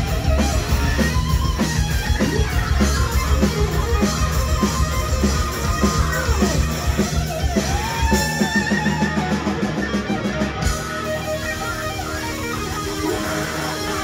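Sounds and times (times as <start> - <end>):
electric guitar lead bending notes: 0.0 - 14.0
live rock band playing: 0.0 - 14.0.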